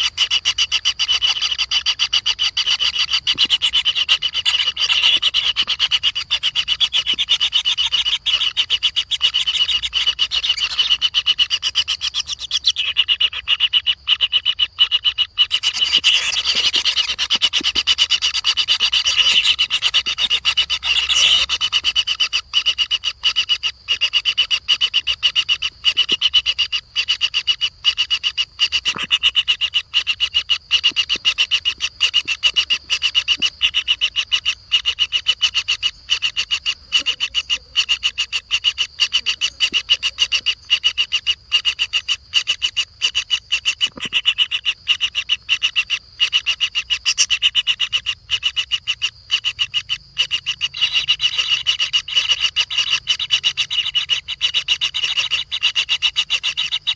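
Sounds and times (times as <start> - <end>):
high-pitched rasping animal call: 0.0 - 56.9.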